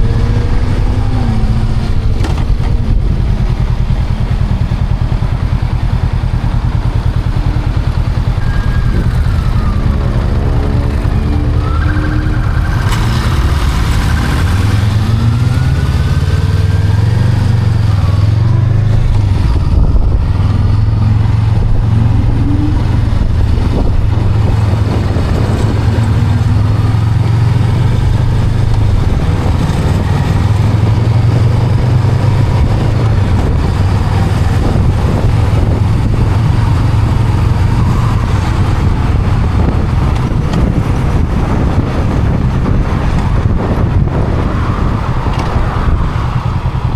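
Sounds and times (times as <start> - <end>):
motorcycle engine running: 0.0 - 46.9
wind noise: 0.0 - 46.9.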